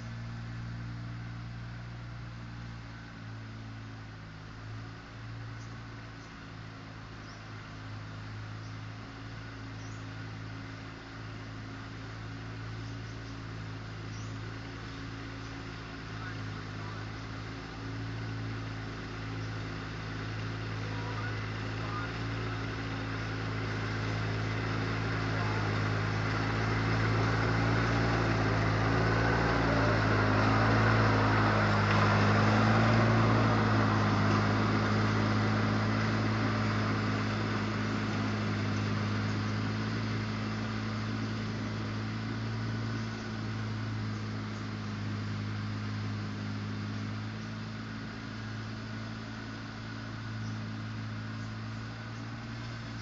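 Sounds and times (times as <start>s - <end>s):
lawn tractor engine running: 0.0s - 53.0s.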